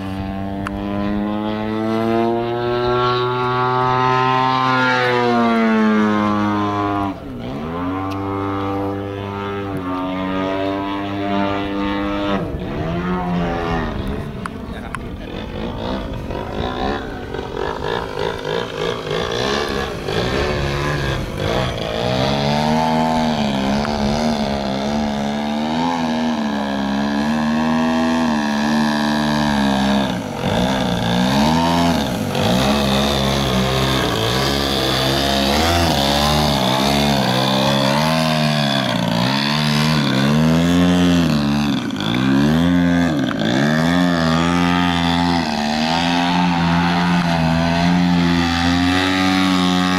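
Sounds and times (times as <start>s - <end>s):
model plane engine and propeller: 0.0s - 49.9s.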